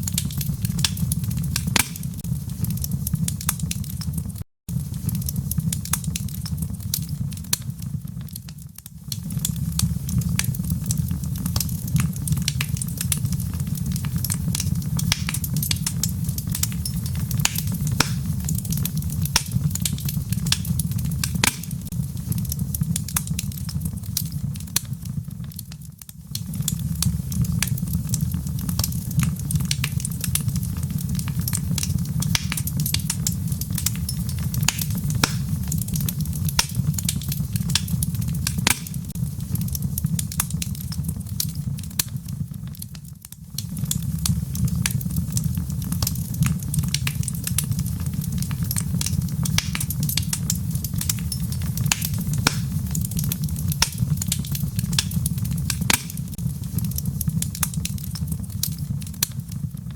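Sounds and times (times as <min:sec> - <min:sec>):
low fire rumble: 0:00.0 - 0:59.9
rain pattering: 0:00.0 - 0:59.9
wood fire crackling and popping: 0:00.0 - 0:59.9.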